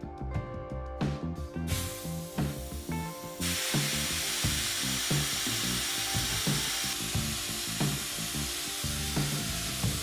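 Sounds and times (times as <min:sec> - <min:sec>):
background music with steady beat: 0:00.0 - 0:10.0
compressed air hissing: 0:01.7 - 0:10.0.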